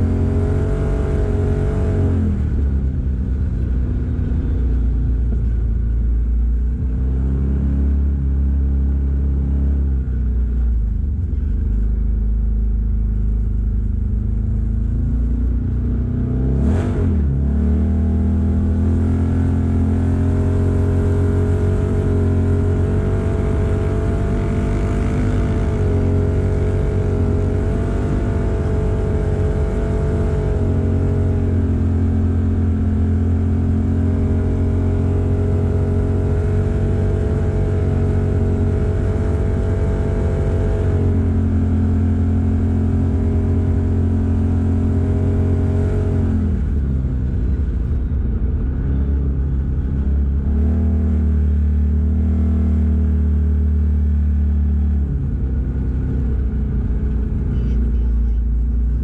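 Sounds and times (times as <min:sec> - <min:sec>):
tyre and road noise: 0:00.0 - 0:59.0
vehicle engine running: 0:00.0 - 0:59.0.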